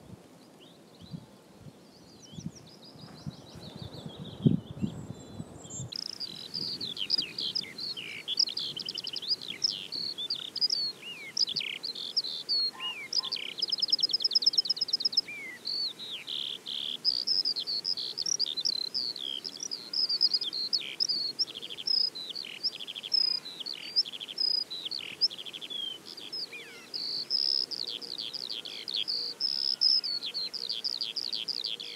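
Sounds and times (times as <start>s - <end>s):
skylark warbling song: 2.3s - 31.9s
buzzy bird trill: 3.7s - 31.9s.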